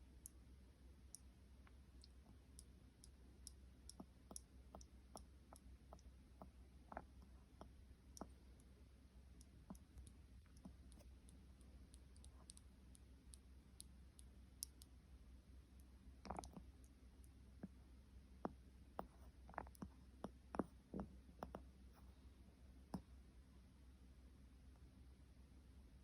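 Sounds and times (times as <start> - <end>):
faint irregular clicks: 0.0 - 23.3
steady low hum: 0.0 - 26.0.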